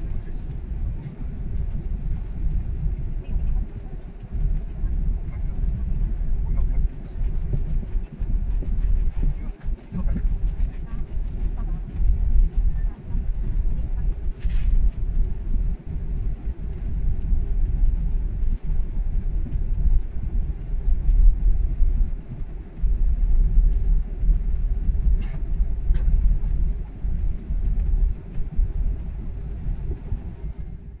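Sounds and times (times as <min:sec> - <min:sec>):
jet engine low rumble: 0:00.0 - 0:31.0
wheels rolling over taxiway: 0:00.0 - 0:31.0.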